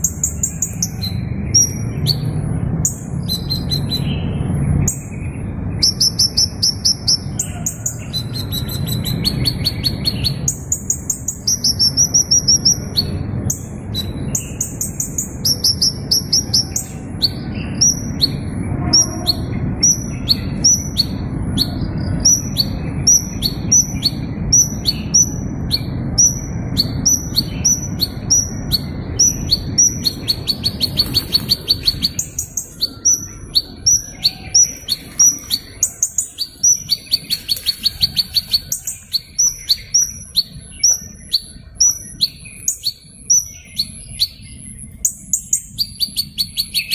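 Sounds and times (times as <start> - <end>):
low background rumble: 0.0 - 46.4
small bird chirping and trilling: 0.0 - 46.9.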